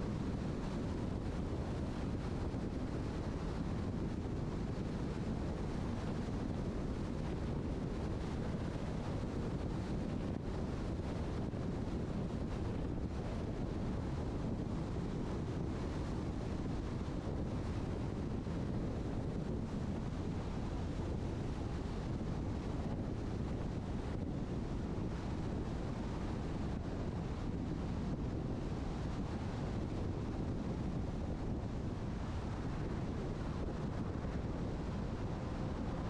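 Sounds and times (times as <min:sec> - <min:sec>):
car road and wind noise: 0:00.0 - 0:36.0.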